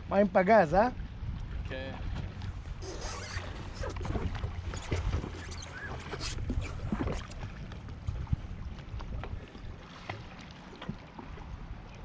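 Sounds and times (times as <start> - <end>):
sea water sloshing and splashing: 1.0 - 12.0.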